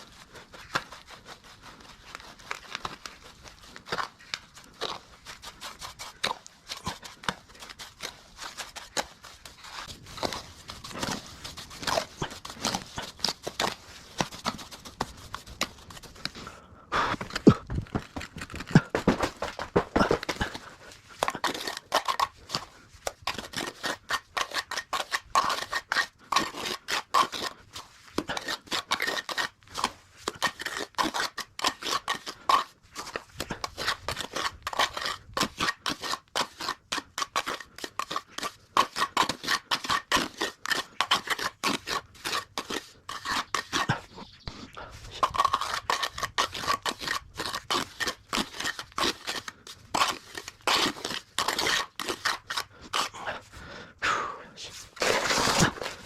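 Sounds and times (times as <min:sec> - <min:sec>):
metal tool scraping wet mortar: 0:00.0 - 0:53.4, 0:54.7 - 0:56.0.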